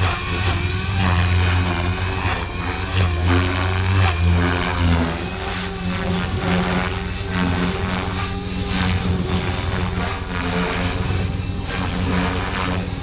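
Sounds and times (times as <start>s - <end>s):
helicopter rotor drone: 0.0s - 13.0s
high motor whine: 0.0s - 13.0s.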